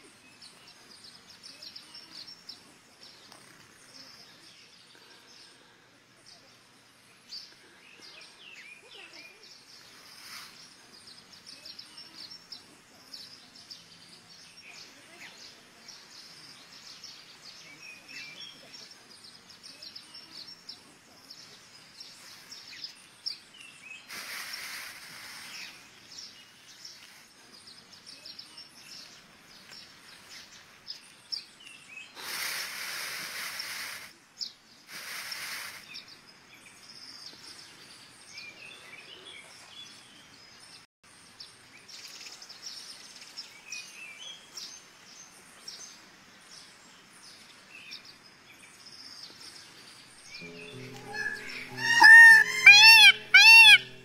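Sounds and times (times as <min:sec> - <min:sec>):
outdoor background noise: 0:00.0 - 0:54.0
small birds chirping: 0:00.0 - 0:54.0.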